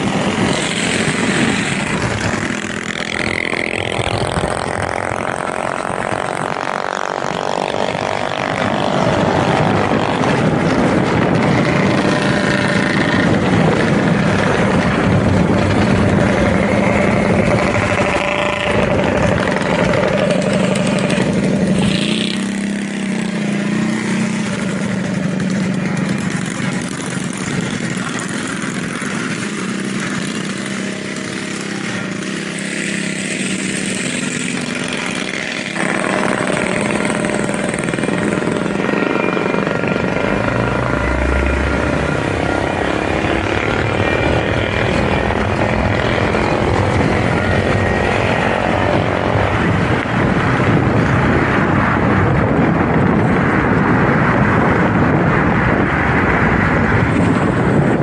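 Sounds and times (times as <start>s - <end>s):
mini bike engines running: 0.0s - 58.0s.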